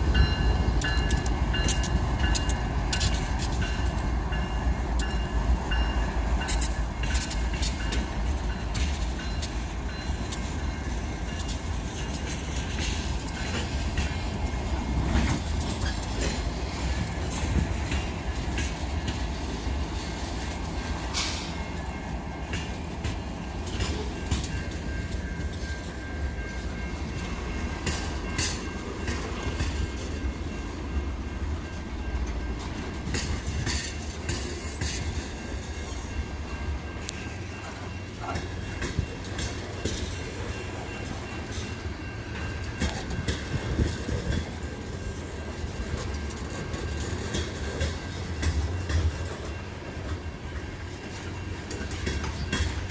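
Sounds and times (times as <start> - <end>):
freight train rumbling past: 0.0 - 52.9
wheels clacking over rail joints: 0.0 - 52.9.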